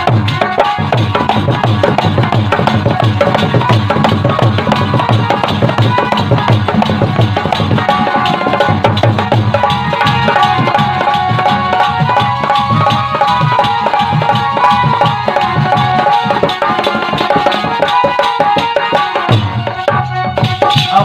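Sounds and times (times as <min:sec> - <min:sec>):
hand drum beat: 0:00.0 - 0:21.0
sustained melodic instrument: 0:00.0 - 0:21.0.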